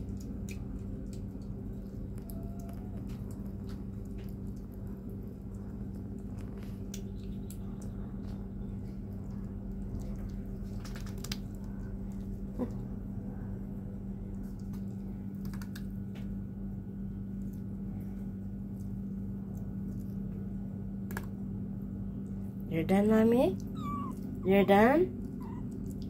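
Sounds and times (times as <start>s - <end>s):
cats eating wet clicking: 0.0s - 22.7s, 23.5s - 26.0s
low hum: 0.0s - 26.0s.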